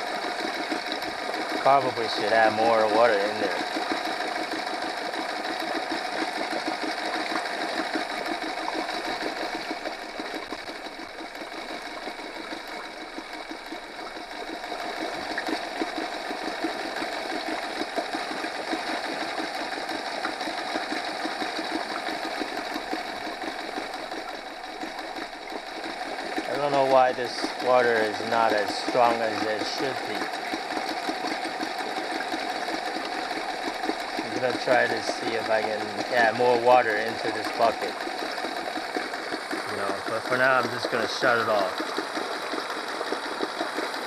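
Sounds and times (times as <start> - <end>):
outboard motor idling: 0.0 - 44.0.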